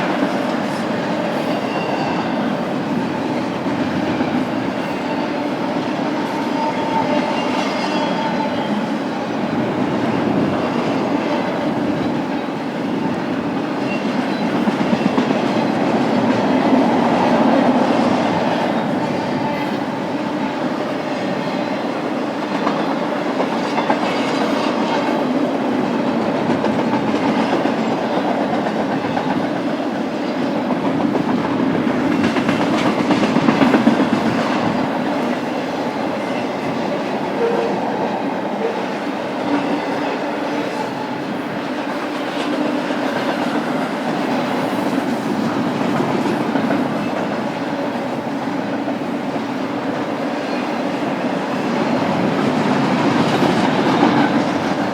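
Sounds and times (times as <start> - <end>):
freight train wheels clacking: 0.0 - 54.9.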